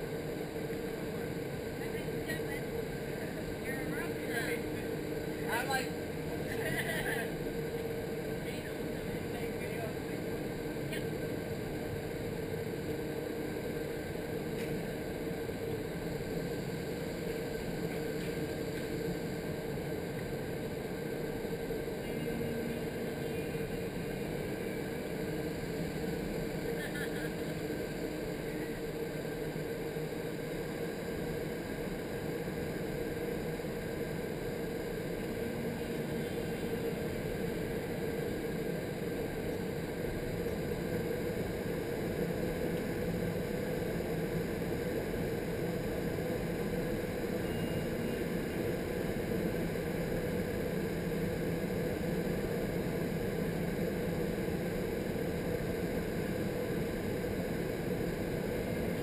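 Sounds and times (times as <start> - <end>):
low hum: 0.0 - 59.0.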